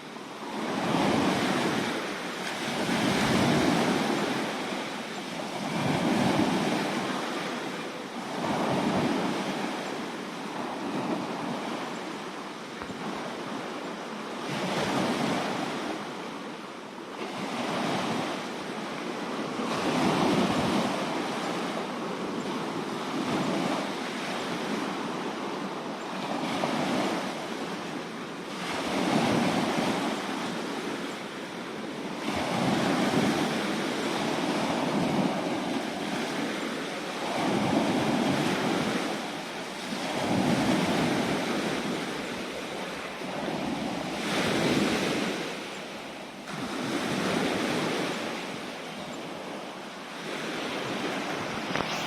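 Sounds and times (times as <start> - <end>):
sea waves washing in: 0.0 - 16.6, 17.2 - 52.0.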